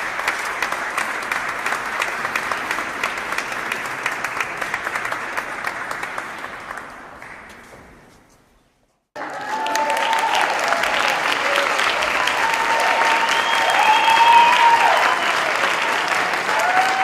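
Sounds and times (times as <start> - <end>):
crowd applause: 0.0 - 7.5, 9.2 - 17.0.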